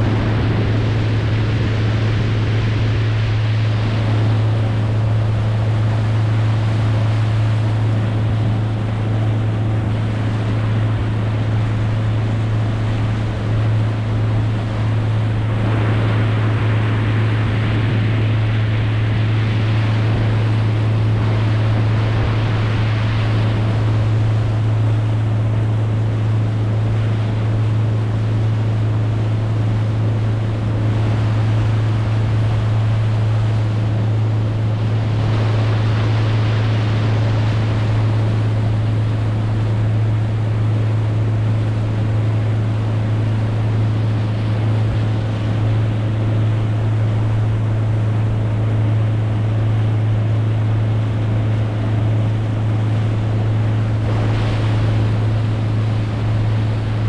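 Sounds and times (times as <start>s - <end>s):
boat motor running: 0.0s - 57.0s
water rushing: 0.0s - 57.0s
wind on microphone: 0.0s - 57.0s.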